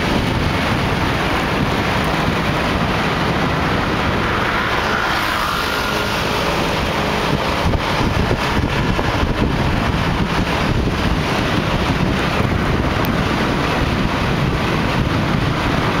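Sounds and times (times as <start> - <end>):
road and engine noise: 0.0 - 16.0
wind rushing over microphone: 0.0 - 16.0.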